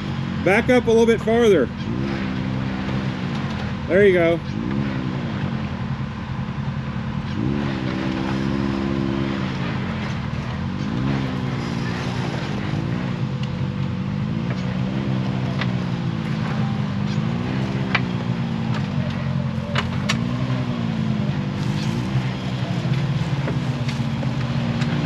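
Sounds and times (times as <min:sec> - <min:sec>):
utility vehicle engine revving: 0:00.0 - 0:25.0.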